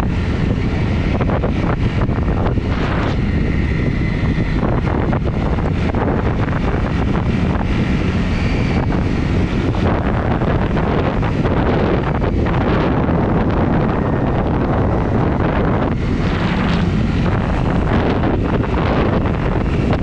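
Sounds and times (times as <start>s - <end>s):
motorbike engine running: 0.0s - 20.0s
wind buffeting on microphone: 0.0s - 20.0s.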